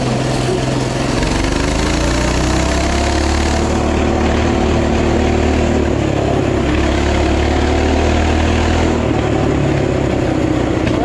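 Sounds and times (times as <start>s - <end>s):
small bike engine running: 0.0s - 11.0s.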